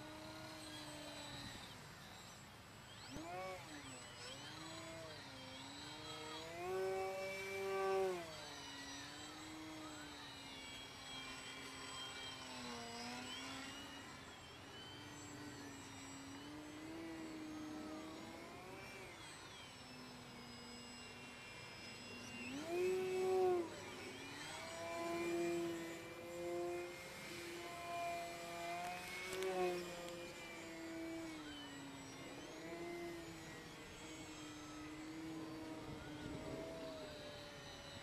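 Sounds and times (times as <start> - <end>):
electric model plane motor whining: 0.0 - 38.0.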